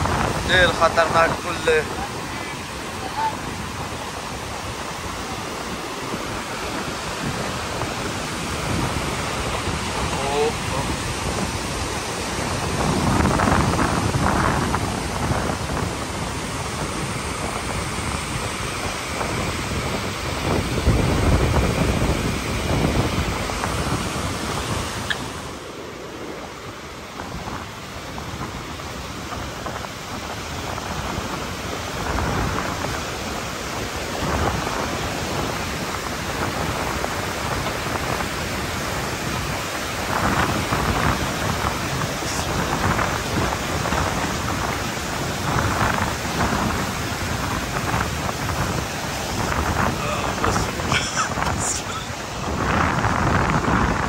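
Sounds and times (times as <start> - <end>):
low rumbling water surges: 0.0 - 54.0
white-water rapids roaring: 0.0 - 54.0.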